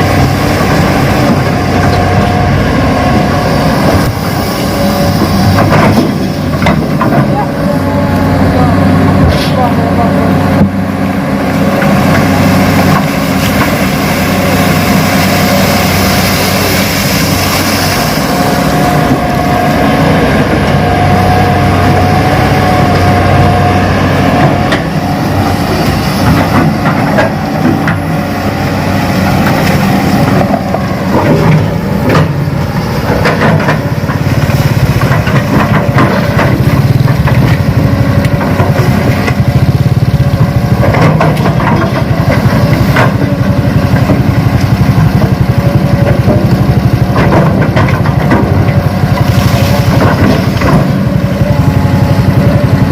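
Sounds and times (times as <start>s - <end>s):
excavator engine drone: 0.0s - 52.9s.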